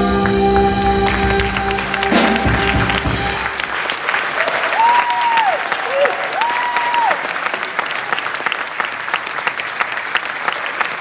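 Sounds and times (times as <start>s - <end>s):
high held cheer: 0.0s - 9.1s
audience applauding: 0.0s - 11.0s.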